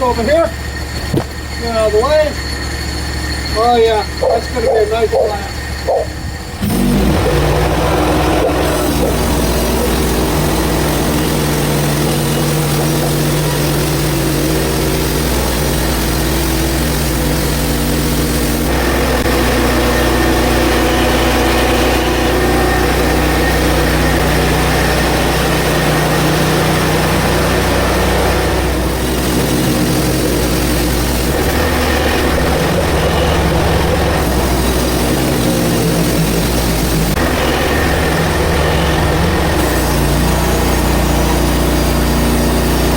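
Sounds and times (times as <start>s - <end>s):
gas engine running: 0.0s - 42.9s
band blade sawing log: 6.6s - 42.9s.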